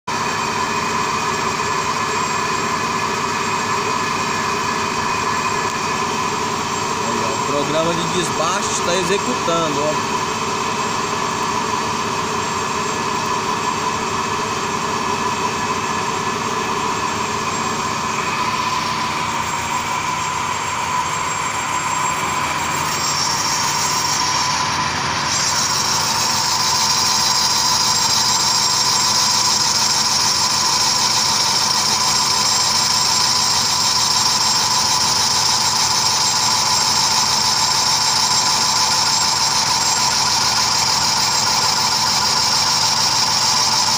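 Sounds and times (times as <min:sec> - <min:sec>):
lathe machine hum: 0:00.1 - 0:43.9
high-pitched cutting whine: 0:00.2 - 0:43.9.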